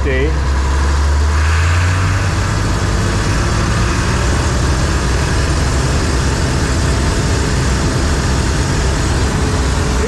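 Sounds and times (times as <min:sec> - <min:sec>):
combine harvester running: 0:00.0 - 0:10.0.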